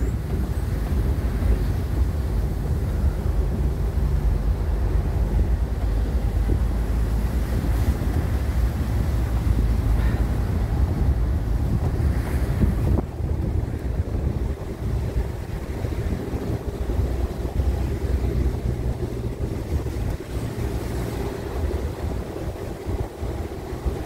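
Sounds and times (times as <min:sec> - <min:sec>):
engine and road rumble: 0:00.0 - 0:24.0
wind buffeting microphone: 0:00.0 - 0:24.0.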